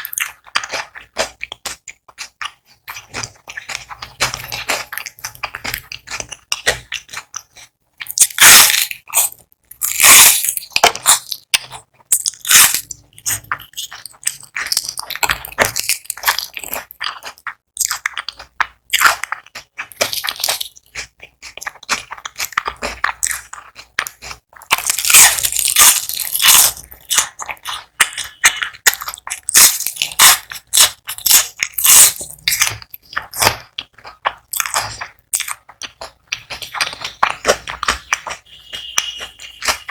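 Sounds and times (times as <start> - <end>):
chewing crackle: 0.0 - 39.9
crunchy bites: 0.0 - 39.9.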